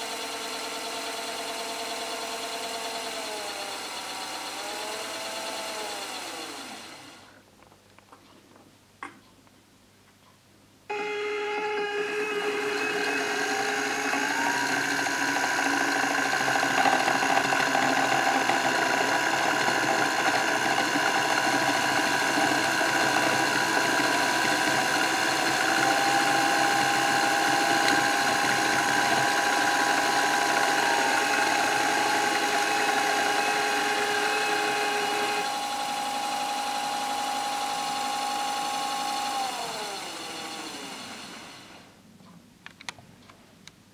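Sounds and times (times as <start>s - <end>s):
spinning wheel motor whine: 0.0s - 7.3s, 10.9s - 41.8s.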